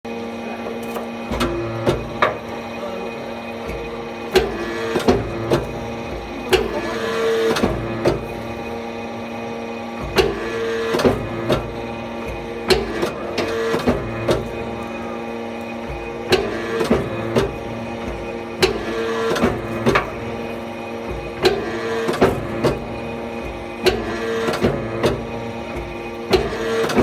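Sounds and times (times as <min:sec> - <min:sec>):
hydraulic pump hum: 0:00.1 - 0:27.0.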